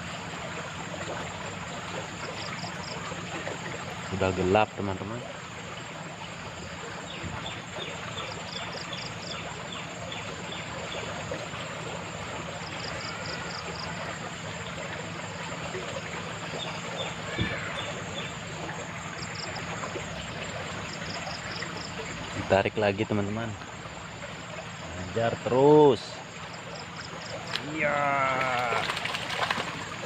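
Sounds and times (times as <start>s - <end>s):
running water: 0.0s - 30.0s.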